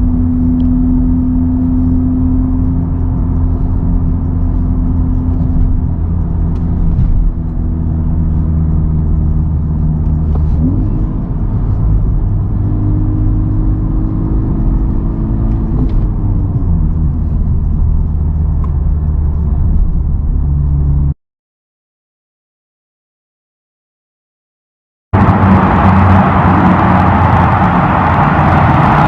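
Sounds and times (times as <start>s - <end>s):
car engine drone from cabin: 0.0s - 21.2s, 25.2s - 29.0s.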